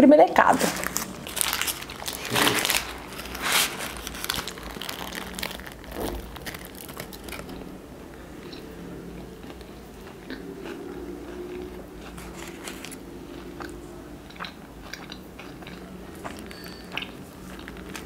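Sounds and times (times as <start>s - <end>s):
person chewing food: 0.8s - 18.0s.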